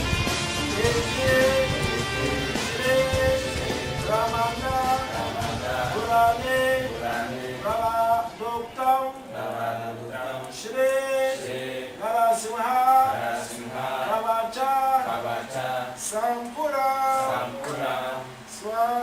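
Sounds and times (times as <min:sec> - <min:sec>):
person chanting melodically: 0:00.7 - 0:19.0.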